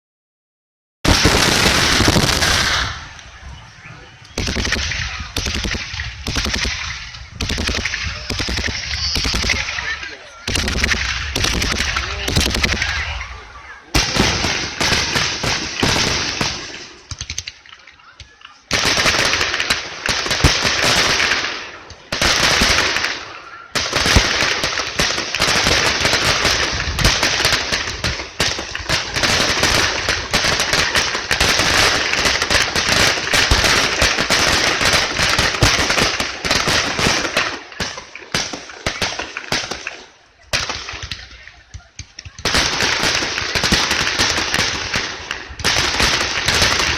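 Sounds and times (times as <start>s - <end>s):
fireworks crackling and banging: 1.0s - 46.9s.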